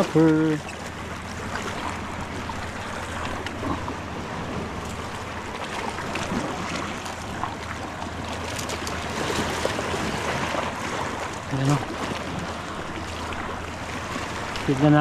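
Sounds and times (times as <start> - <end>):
waves splashing over rocks: 0.0 - 15.0.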